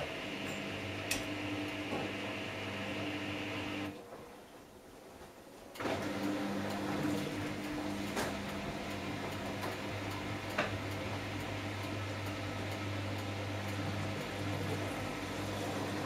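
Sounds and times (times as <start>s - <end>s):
washing machine motor hum: 0.0s - 5.1s, 5.7s - 16.0s.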